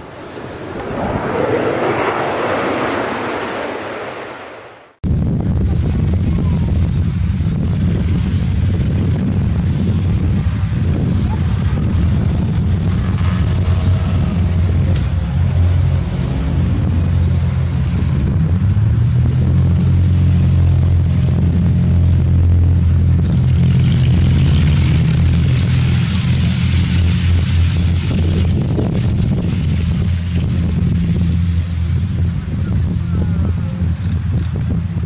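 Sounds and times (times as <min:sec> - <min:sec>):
propeller aircraft engine droning: 0:00.0 - 0:35.0.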